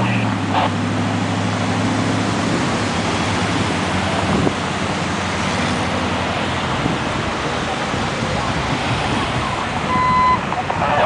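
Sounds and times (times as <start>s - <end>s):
low engine hum: 0.0s - 11.0s
road traffic noise: 0.0s - 11.0s.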